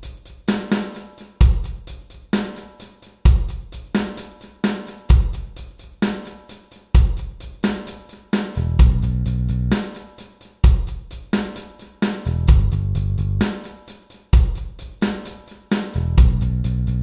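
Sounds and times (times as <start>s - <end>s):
drum kit playing a beat: 0.0s - 17.0s.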